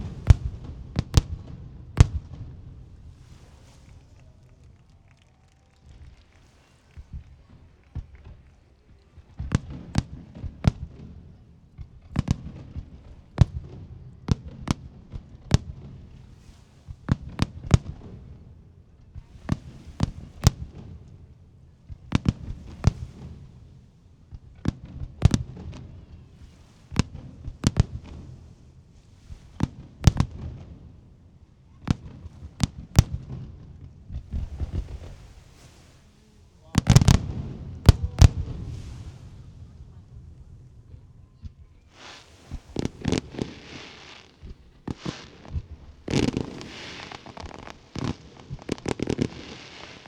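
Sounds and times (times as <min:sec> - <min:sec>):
firework bangs: 0:00.0 - 0:18.5, 0:19.1 - 0:50.0.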